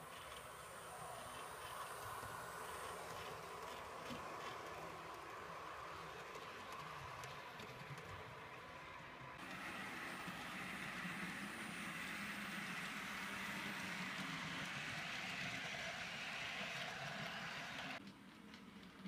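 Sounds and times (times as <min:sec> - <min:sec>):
model train wheels rattling: 0:00.0 - 0:19.0.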